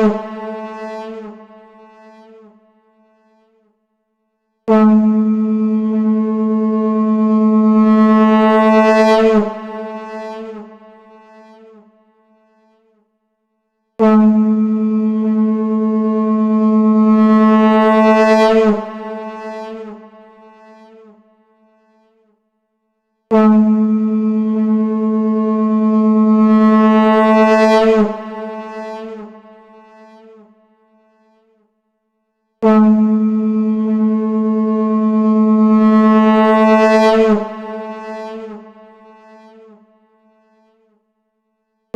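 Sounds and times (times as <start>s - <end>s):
conch shell blown: 0.0s - 3.7s, 4.7s - 13.0s, 14.0s - 22.3s, 23.3s - 31.6s, 32.6s - 41.0s.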